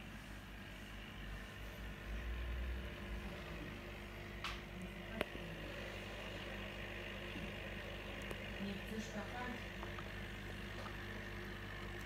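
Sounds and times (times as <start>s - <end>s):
aquarium pump humming: 0.0s - 12.0s
water running through filter: 1.8s - 12.0s.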